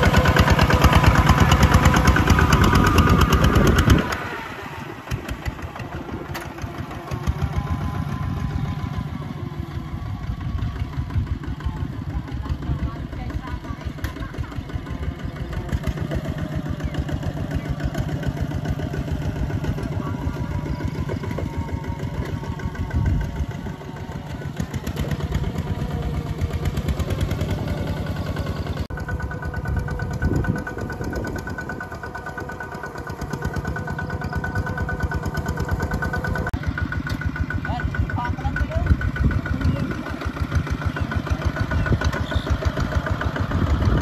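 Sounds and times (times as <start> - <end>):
diesel engine chugging: 0.0 - 44.0.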